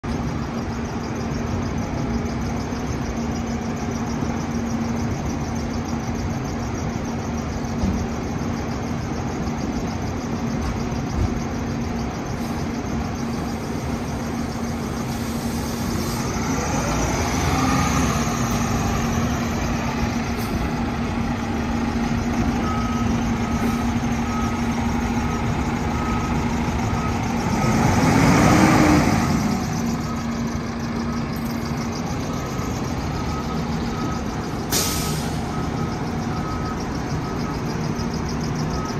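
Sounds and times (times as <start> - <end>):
diesel engine idling and revving: 0.0 - 38.9
reversing alarm beeping: 0.1 - 38.9.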